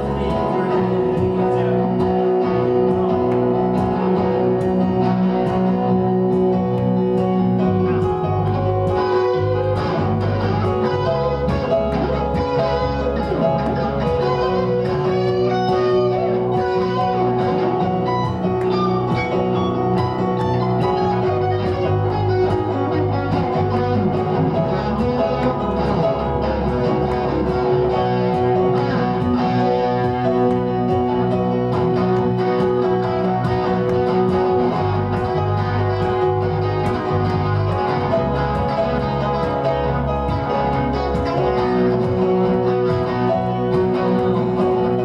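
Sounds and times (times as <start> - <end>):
bass line: 0.0 - 45.0
live band with guitar: 0.0 - 45.0.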